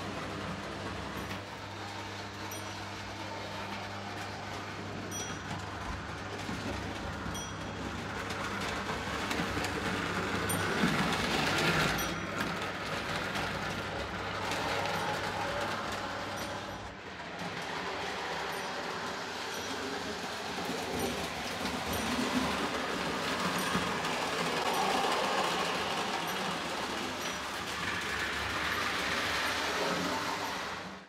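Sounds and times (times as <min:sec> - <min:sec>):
toy train wheels rattling on rails: 0:00.0 - 0:31.0.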